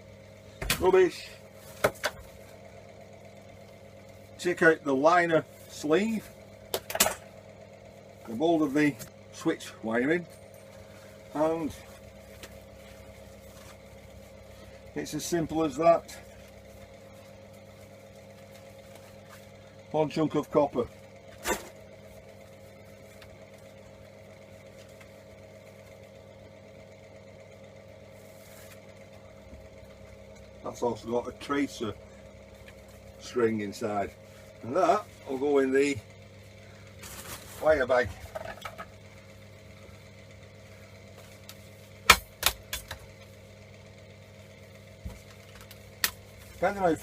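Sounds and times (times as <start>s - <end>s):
extraction fan humming: 0.0s - 47.0s.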